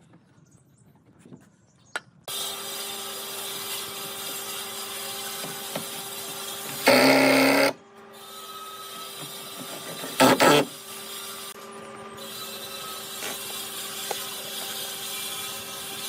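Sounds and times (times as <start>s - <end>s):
power tool whining: 2.3s - 16.0s.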